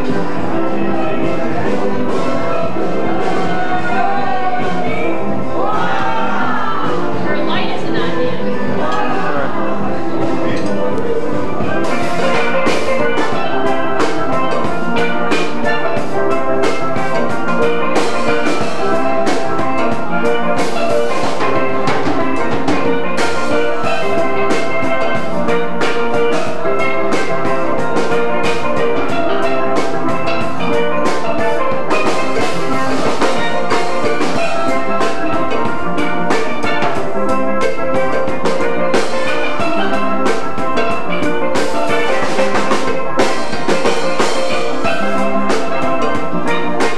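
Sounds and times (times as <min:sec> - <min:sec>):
steady drum beat: 0:00.0 - 0:46.9
steel pans playing melody: 0:00.0 - 0:46.9.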